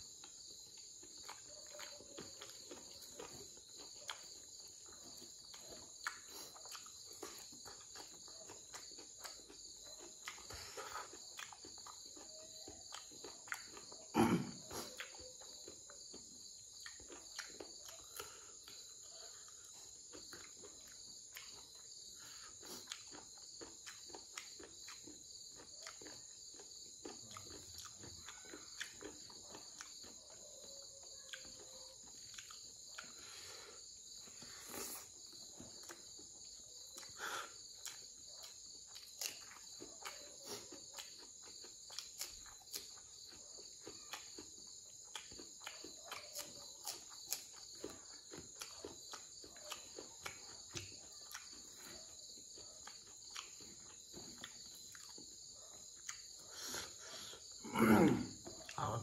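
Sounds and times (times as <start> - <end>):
crickets chirring: 0.0 - 59.0
mouth clicks and chewing: 0.0 - 59.0.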